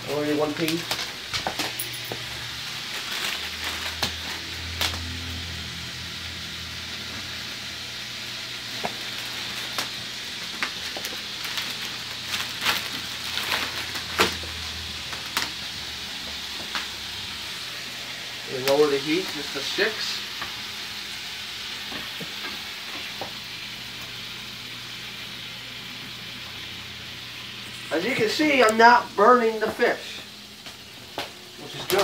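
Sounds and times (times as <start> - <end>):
fish sizzling in a pan: 0.0 - 32.0.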